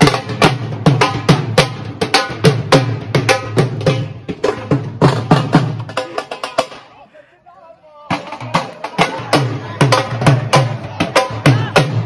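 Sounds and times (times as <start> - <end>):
dhol drum fast rhythm: 0.0 - 7.0, 8.1 - 12.0.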